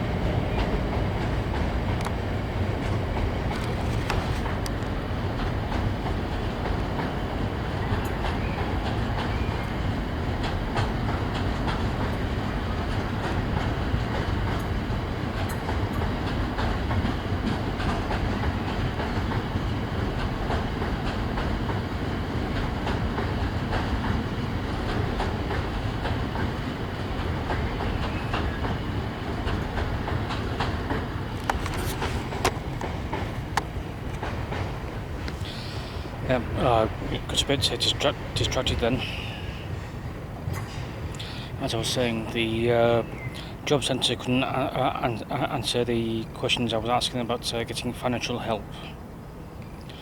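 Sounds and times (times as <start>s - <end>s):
train wheels clattering on rails: 0.0s - 50.0s.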